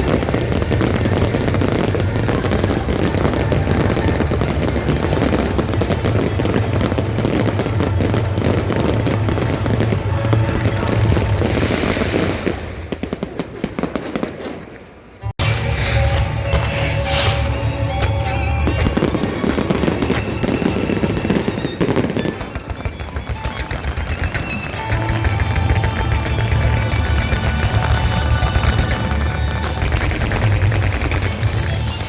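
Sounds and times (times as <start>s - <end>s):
fireworks crackling and popping: 0.0s - 32.0s.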